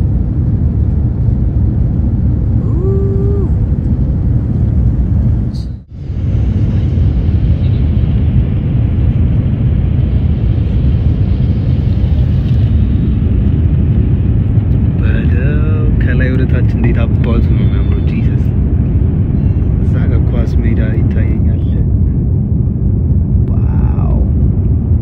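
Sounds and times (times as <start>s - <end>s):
jet engine cabin roar: 0.0s - 25.0s.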